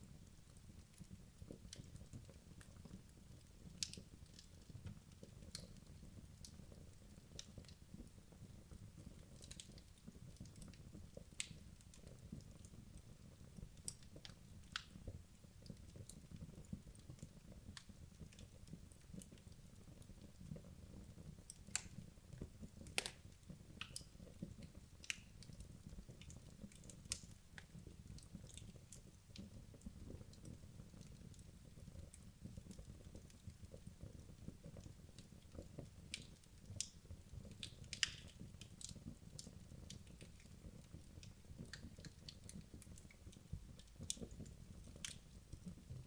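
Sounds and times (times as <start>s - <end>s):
wood crackling and popping: 0.0s - 46.0s.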